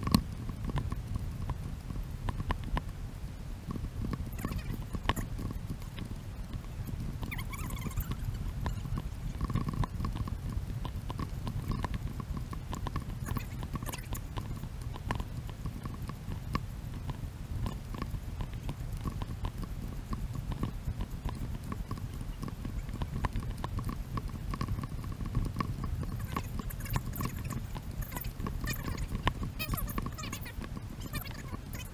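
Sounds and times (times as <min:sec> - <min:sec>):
low steady rumble: 0:00.0 - 0:31.9.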